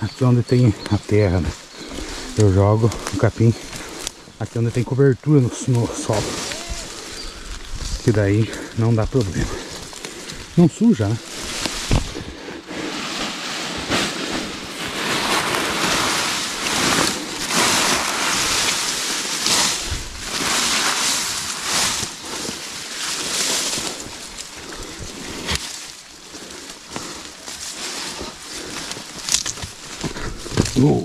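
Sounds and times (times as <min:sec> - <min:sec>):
grass leaves rustling: 0:00.0 - 0:31.0.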